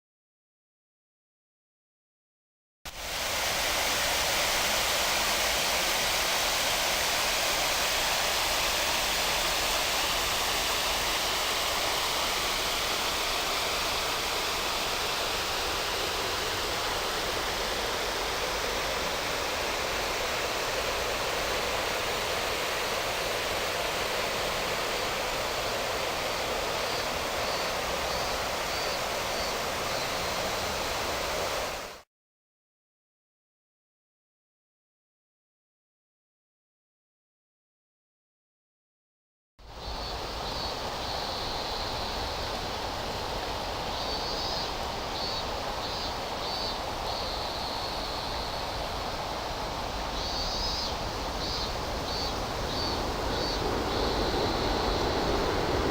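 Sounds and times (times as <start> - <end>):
river water rushing: 2.9 - 32.0, 39.7 - 55.9.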